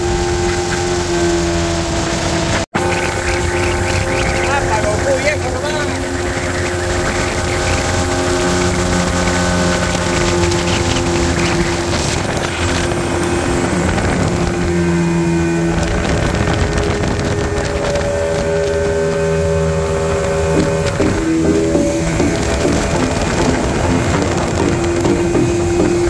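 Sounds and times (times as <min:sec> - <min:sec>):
boat wake rushing: 0:00.0 - 0:26.0
outboard motor running: 0:00.0 - 0:26.0
wind buffeting microphone: 0:00.0 - 0:26.0.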